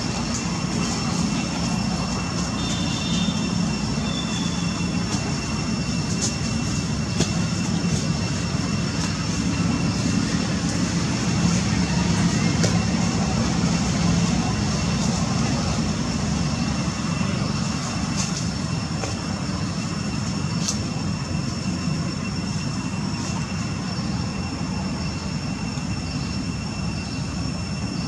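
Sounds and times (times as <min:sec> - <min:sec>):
machine drone: 0:00.0 - 0:28.0
thin high whine: 0:00.0 - 0:28.0.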